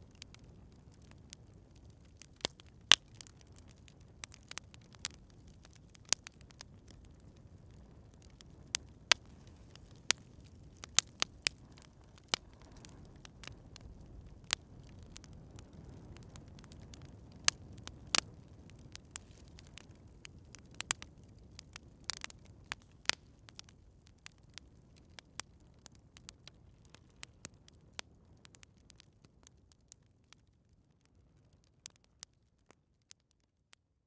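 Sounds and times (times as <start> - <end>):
campfire crackling and popping: 0.0 - 33.5.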